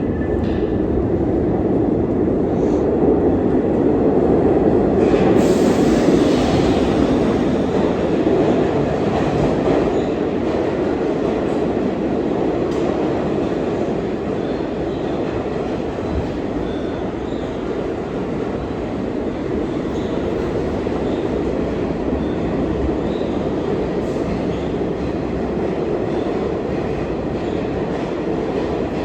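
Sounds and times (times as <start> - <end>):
subway train rumbling on rails: 0.0 - 29.0.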